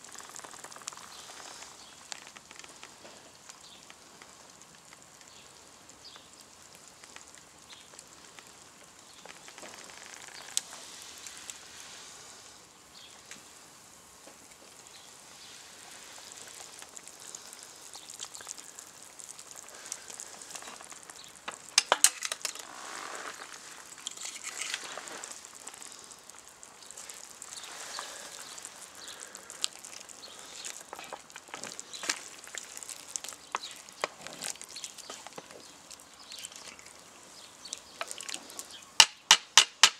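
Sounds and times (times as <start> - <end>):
meat sizzling with pops: 0.0 - 39.9.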